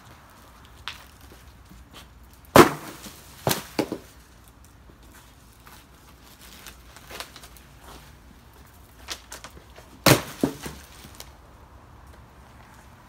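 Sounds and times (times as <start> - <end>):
palm branches cracking: 0.1 - 11.4.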